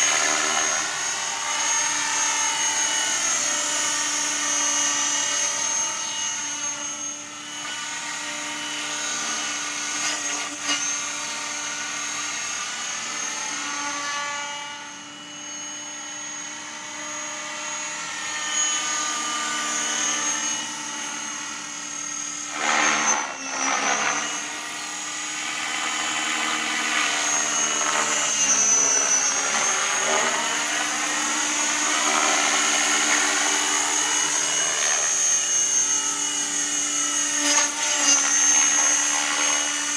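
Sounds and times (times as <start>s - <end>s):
rc helicopter motor and rotor whine: 0.0s - 39.9s.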